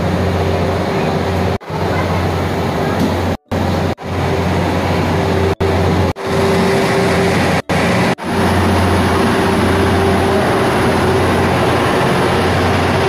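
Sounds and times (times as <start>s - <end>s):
high steady whine: 0.0s - 13.0s
machinery hum: 0.0s - 13.0s.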